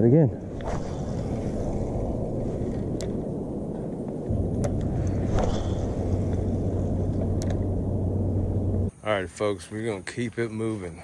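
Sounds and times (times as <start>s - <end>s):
wind rumbling on microphone: 0.0s - 9.0s
steady low hum: 0.0s - 11.0s.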